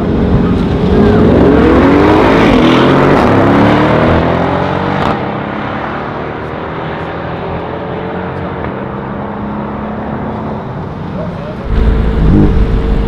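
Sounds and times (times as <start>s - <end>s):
cars launching at full throttle: 0.0s - 13.0s.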